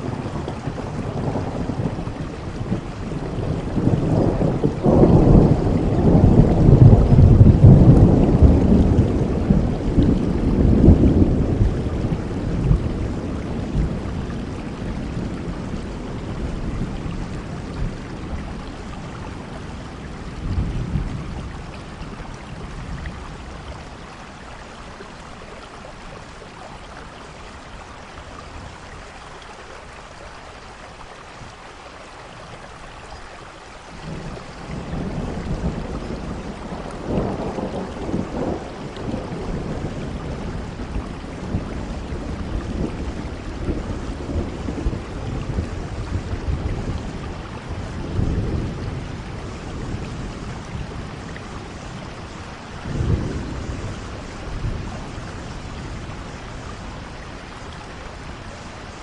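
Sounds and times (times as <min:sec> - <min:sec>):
thunder rumbling: 0:00.0 - 0:24.6, 0:34.0 - 0:59.0
steady rain hiss: 0:00.0 - 0:59.0.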